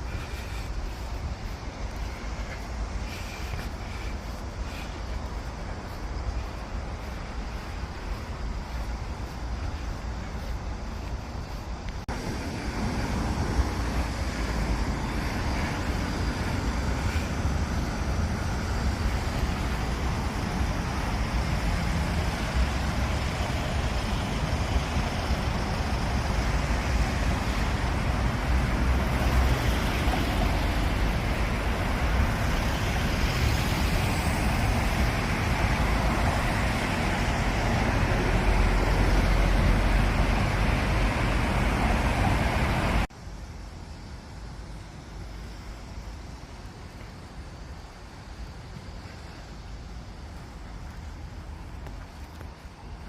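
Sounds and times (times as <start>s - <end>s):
road traffic rumble and hiss: 0.0s - 53.0s.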